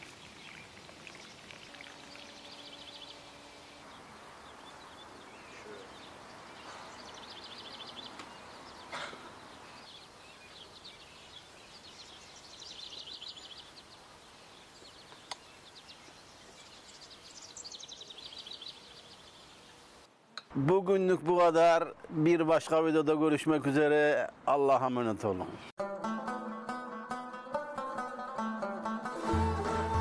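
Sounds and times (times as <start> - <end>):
faint steady hiss: 0.0 - 24.8.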